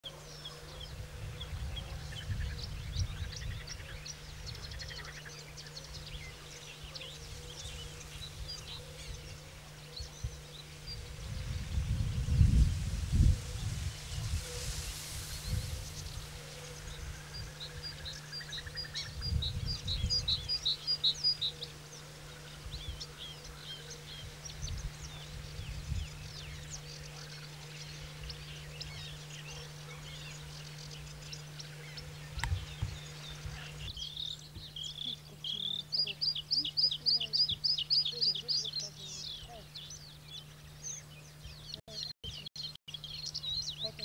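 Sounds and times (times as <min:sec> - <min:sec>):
bird singing with trills: 0:00.0 - 0:44.0.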